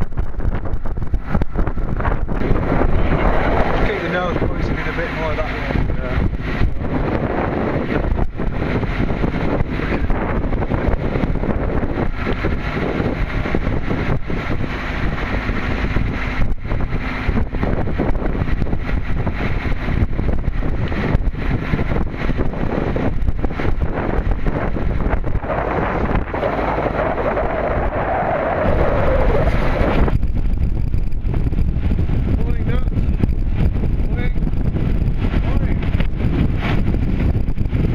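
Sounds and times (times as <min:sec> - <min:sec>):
gusty thumps: 0:00.0 - 0:37.9
wind buffeting microphone: 0:00.0 - 0:37.9.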